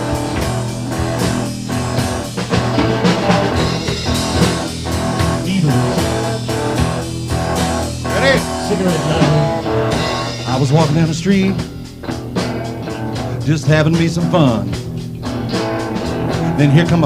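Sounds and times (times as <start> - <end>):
electric guitar playing: 0.0 - 17.0
steady drum beat: 0.0 - 17.0.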